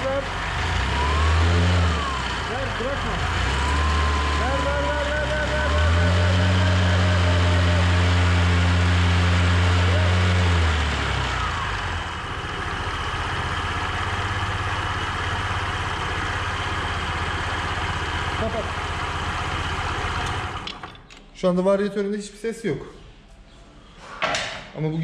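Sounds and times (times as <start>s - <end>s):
scooter engine revving and idling: 0.0s - 20.8s
engine growl: 0.0s - 21.0s.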